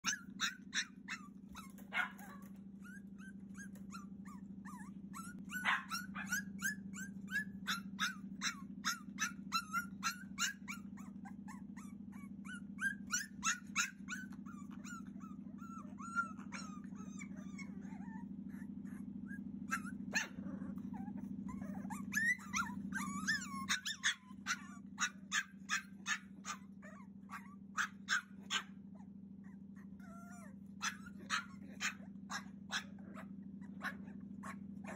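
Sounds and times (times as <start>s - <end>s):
low hum: 0.0s - 34.9s
puppy yipping and whining: 0.0s - 34.9s.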